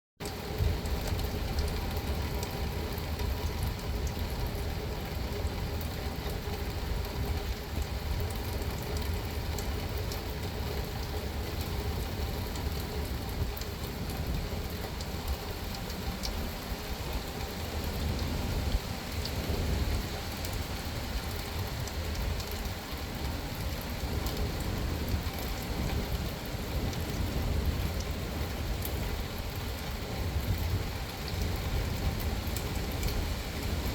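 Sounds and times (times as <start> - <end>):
rain falling on a car: 0.2 - 33.9.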